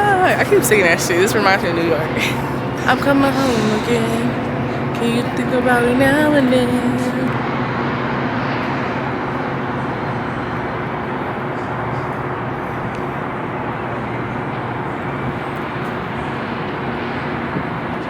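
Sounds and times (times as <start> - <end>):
faint low engine hum: 0.0 - 18.0
vehicle and road noise rumble: 0.0 - 18.0.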